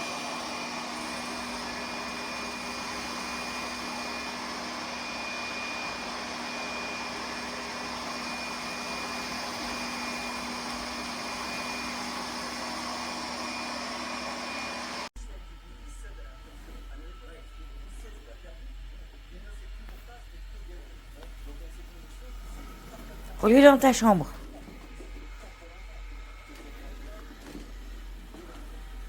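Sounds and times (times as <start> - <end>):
robot vacuum cleaner running: 0.0 - 29.0.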